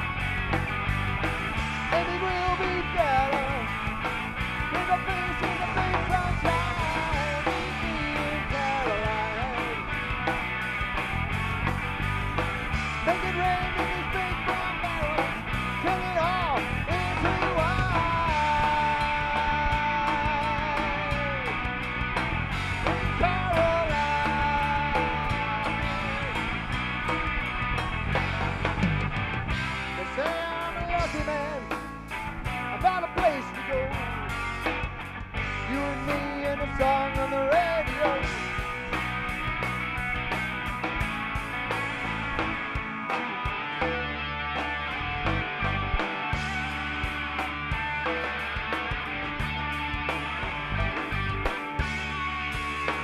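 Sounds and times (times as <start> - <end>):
bass guitar: 0.0 - 53.0
drums: 0.0 - 53.0
electric guitar lead with bent notes: 0.0 - 53.0.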